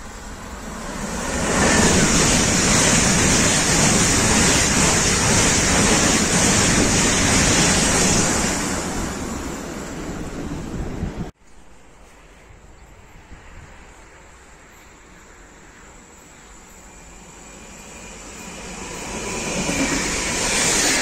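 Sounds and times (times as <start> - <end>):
high-speed train rushing past: 0.0 - 11.4, 12.4 - 21.0.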